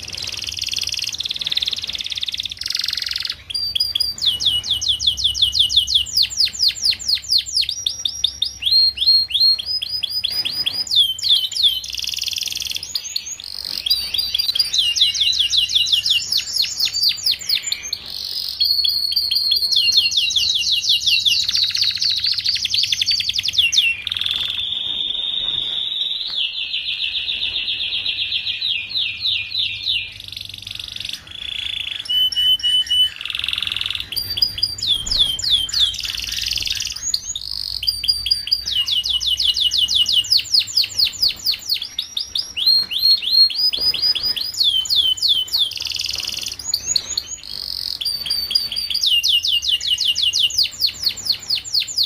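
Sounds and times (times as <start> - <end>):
canary singing trills: 0.0 - 52.0.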